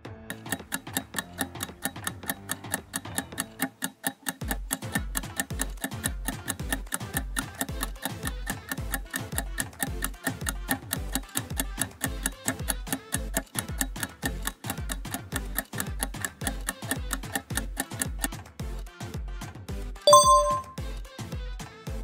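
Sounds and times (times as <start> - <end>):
clock-like ticking music: 0.3 - 18.5, 20.1 - 20.8.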